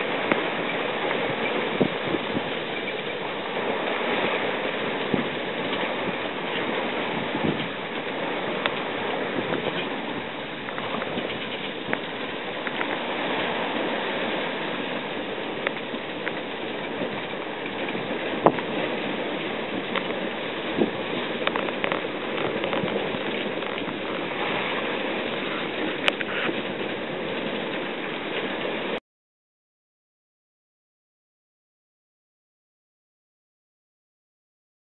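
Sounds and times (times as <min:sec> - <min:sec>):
water rushing along hull: 0:00.0 - 0:29.0.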